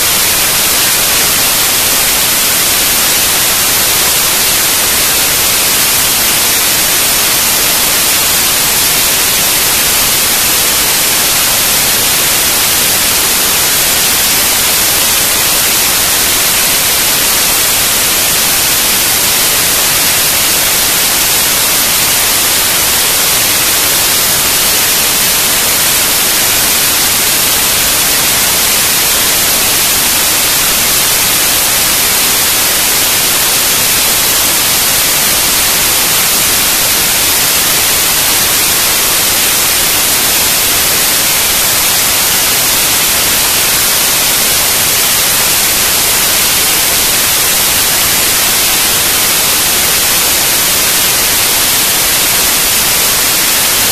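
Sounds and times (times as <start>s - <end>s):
loud static hiss: 0.0s - 53.9s.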